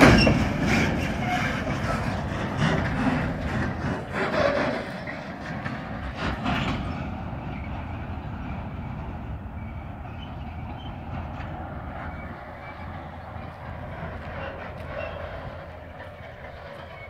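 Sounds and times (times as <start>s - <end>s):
freight train rumbling: 0.0s - 17.0s
train wheel clacks: 0.0s - 17.0s.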